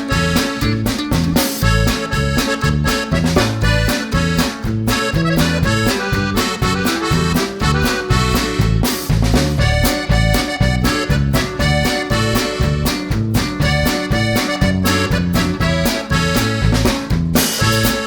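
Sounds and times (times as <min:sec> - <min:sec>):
accordion music: 0:00.0 - 0:18.0
bouncy bass line: 0:00.0 - 0:18.0.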